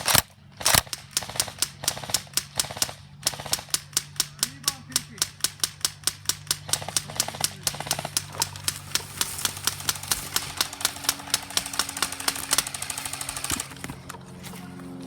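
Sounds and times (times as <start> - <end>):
airsoft guns firing: 0.0 - 14.2.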